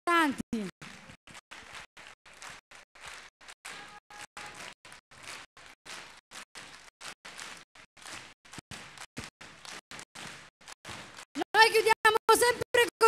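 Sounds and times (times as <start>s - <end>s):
audience applauding: 0.8s - 11.4s.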